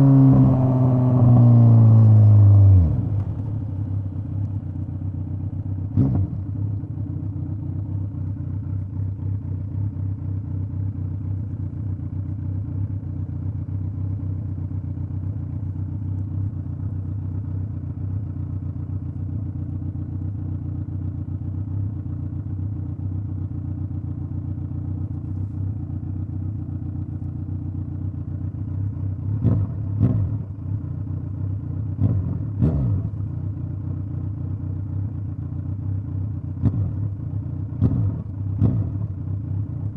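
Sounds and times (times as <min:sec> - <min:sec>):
motorcycle engine revving: 0:00.0 - 0:12.6, 0:19.1 - 0:39.9.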